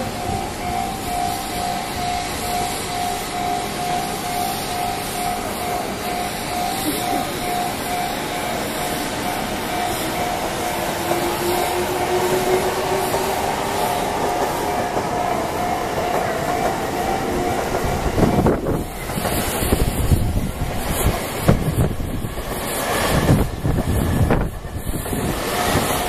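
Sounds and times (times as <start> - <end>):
electric train motor whine: 0.0 - 26.0
train wheels clattering on rails: 0.0 - 26.0.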